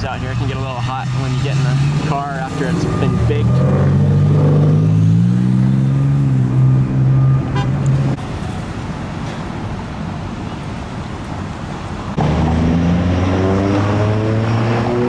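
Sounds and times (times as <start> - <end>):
car engine humming: 0.0 - 15.0
traffic noise: 0.0 - 15.0.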